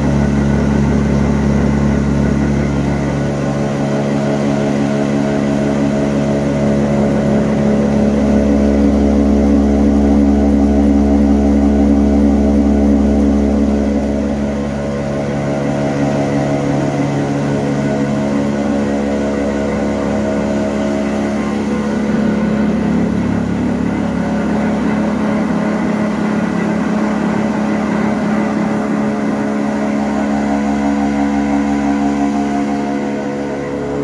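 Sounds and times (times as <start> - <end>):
mill machinery droning: 0.0 - 34.0.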